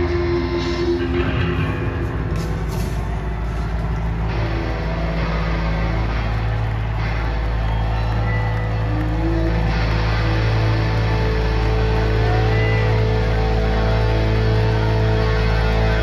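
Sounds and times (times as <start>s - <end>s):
electric guitar feedback drone: 0.0s - 16.0s.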